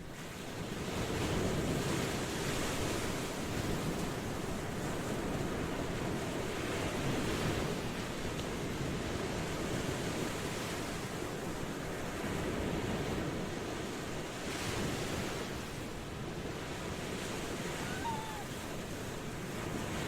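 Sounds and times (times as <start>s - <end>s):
ocean waves washing on shore: 0.0s - 20.0s.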